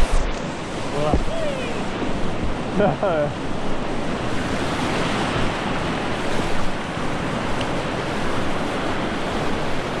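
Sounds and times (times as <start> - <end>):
river rapids rushing: 0.0 - 10.0.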